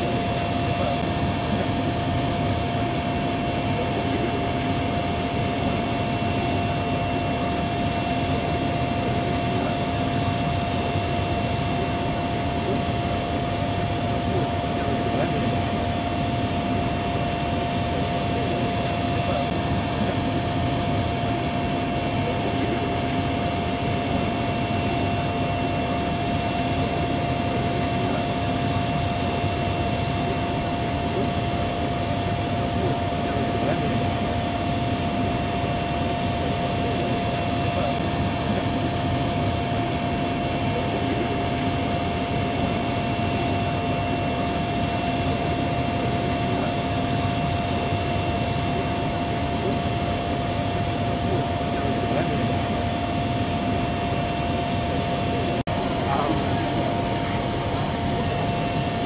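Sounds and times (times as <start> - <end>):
jet turbine whine: 0.0 - 59.0.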